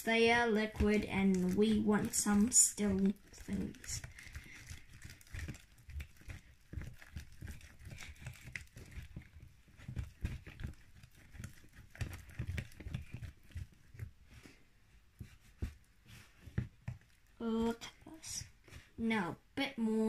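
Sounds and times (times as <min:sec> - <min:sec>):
slime being mixed: 0:00.0 - 0:20.0.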